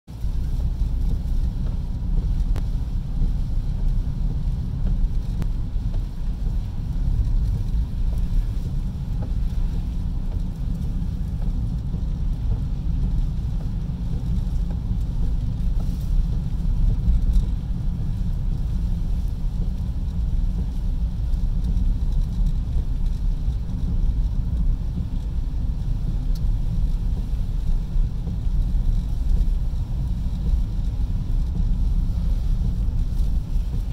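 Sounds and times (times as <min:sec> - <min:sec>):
car road and engine rumble: 0:00.1 - 0:33.9.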